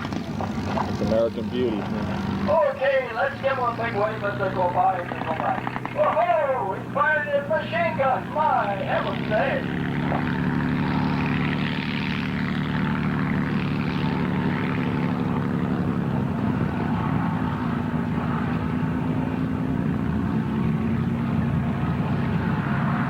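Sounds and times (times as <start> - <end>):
propeller plane engines droning: 0.0 - 23.0.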